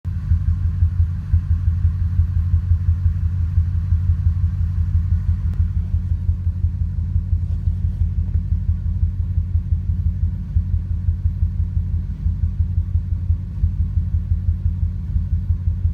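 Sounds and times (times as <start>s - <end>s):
truck engine idling roughly: 0.1s - 15.9s.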